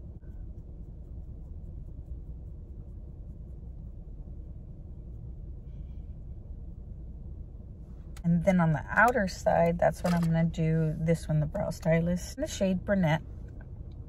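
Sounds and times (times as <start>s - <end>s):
low rumble inside car cabin: 0.0s - 14.0s.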